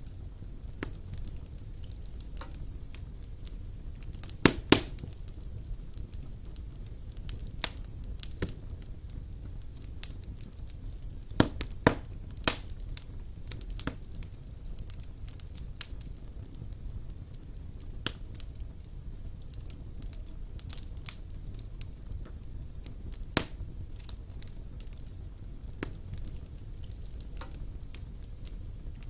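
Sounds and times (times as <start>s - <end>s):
wood fire crackling in fireplace: 0.0s - 29.0s.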